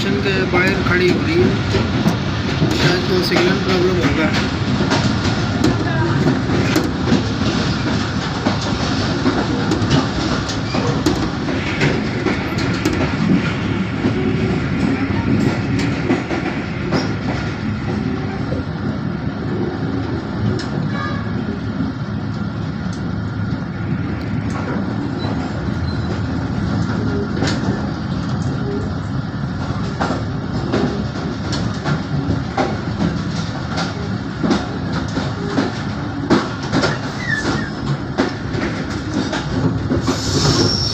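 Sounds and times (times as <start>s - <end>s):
wheels clicking over rail joints: 0.0s - 23.1s, 24.2s - 40.9s
train coaches rumbling on rails: 0.0s - 40.9s.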